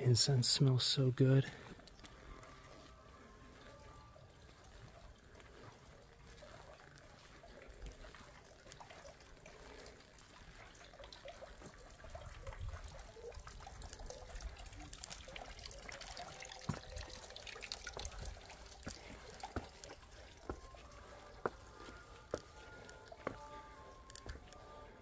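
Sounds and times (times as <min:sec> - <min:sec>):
faint steady musical tones: 0:00.0 - 0:25.0
faint water trickling: 0:00.0 - 0:25.0.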